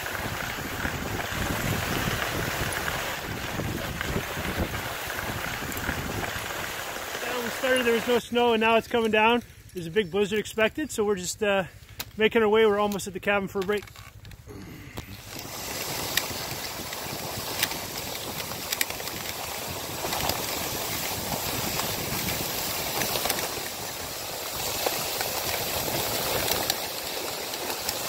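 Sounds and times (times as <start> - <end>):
sled runners sliding over snow: 0.0 - 11.6, 12.3 - 28.0.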